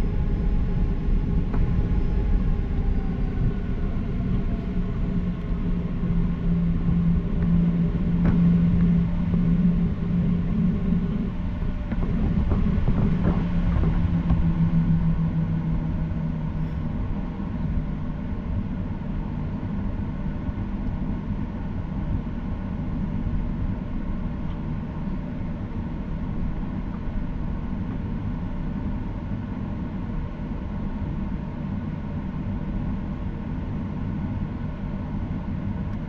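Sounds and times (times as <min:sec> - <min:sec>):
jet engine drone inside cabin: 0:00.0 - 0:36.0
low hum: 0:00.0 - 0:36.0.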